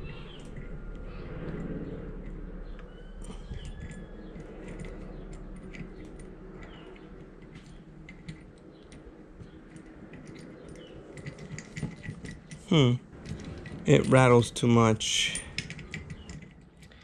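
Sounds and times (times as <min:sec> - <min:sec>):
metal parts clicking and rattling: 0:00.0 - 0:17.0.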